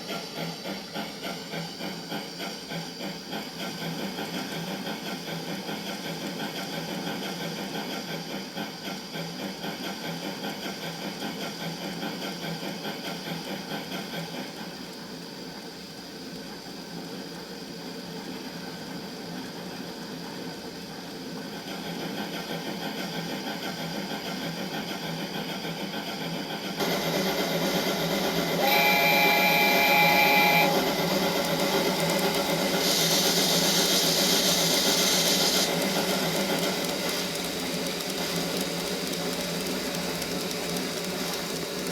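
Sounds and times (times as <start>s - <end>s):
steam locomotive chuffing from speaker: 0.0s - 41.9s.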